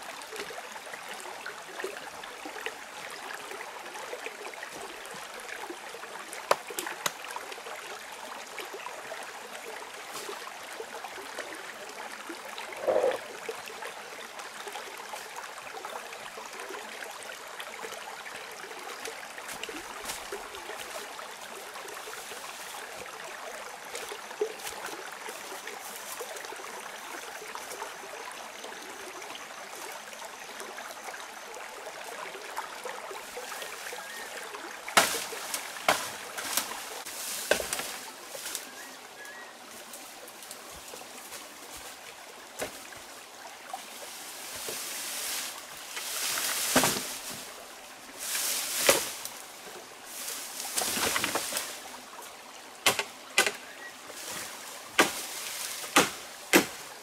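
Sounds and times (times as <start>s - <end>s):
rustle of brush and leaves: 0.0s - 57.0s
stream trickling over rocks: 0.0s - 57.0s.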